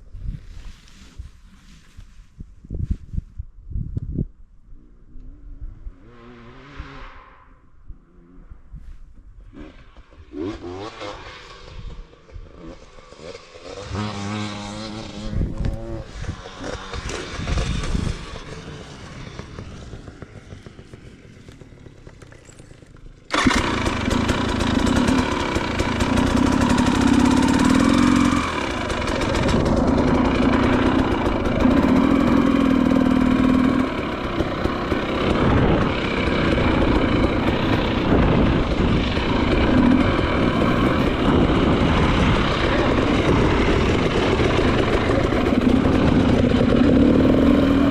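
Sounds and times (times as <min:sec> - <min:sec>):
dirt bike engine running: 0:09.5 - 0:47.9.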